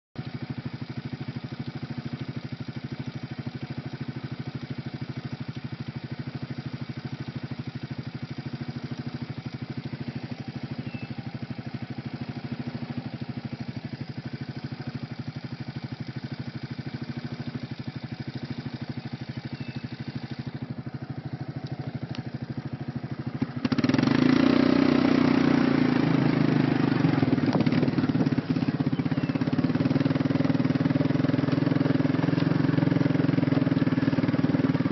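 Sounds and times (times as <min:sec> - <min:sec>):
quad bike engine running: 0:00.2 - 0:34.9.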